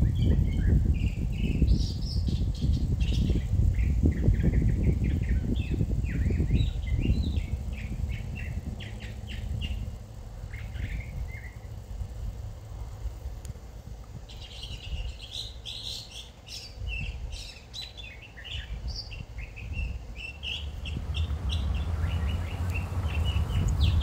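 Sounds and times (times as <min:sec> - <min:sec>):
songbirds chirping and trilling: 0:00.0 - 0:24.0
wind rumble on microphone: 0:00.0 - 0:24.0.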